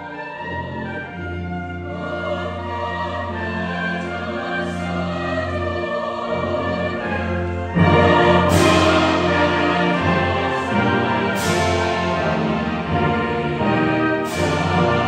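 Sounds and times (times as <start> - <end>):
choir and brass band: 0.0 - 15.0.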